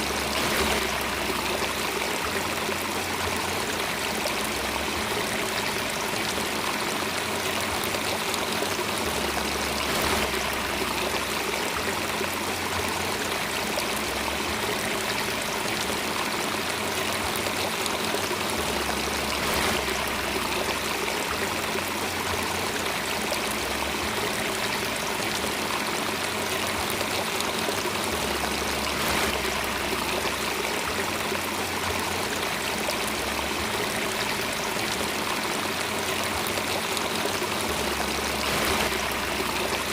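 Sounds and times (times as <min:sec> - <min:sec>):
stream flowing water: 0:00.0 - 0:39.9.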